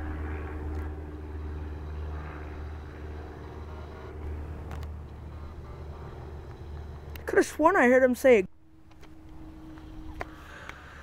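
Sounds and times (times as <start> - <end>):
propeller airplane engine droning: 0.0 - 11.0
steady tones: 0.0 - 11.0.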